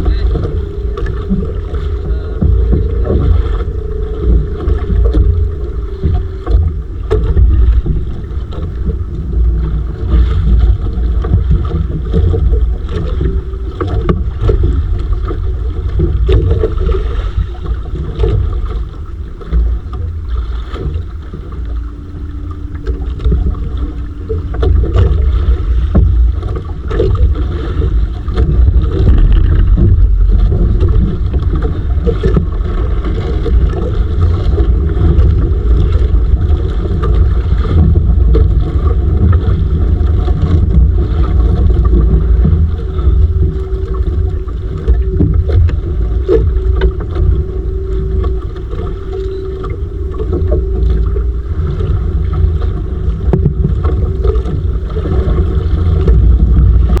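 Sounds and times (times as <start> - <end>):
faint steady hum: 0.0 - 57.0
water noise: 0.0 - 57.0
wind buffeting microphone: 0.0 - 57.0.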